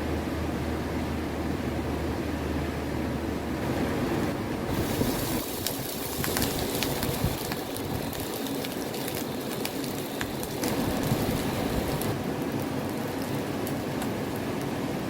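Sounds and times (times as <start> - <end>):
heavy rain pattering: 0.0 - 15.0.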